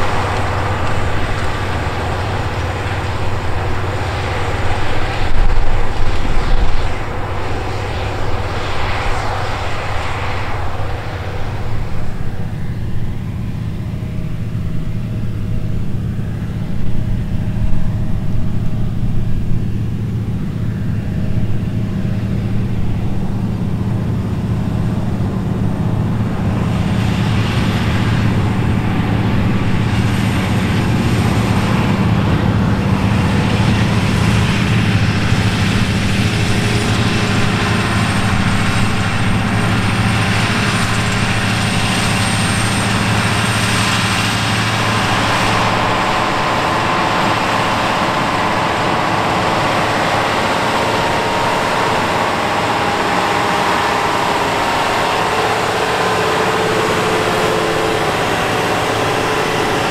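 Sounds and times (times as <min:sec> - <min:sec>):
higher steady tone: 0:00.0 - 0:59.9
tractor diesel engine under load: 0:00.0 - 0:59.9.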